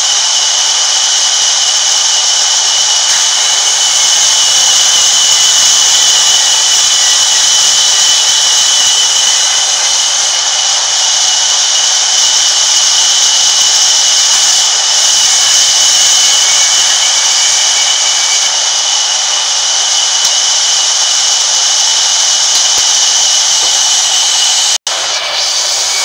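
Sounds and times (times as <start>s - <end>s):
band saw cutting wood: 0.0s - 26.0s.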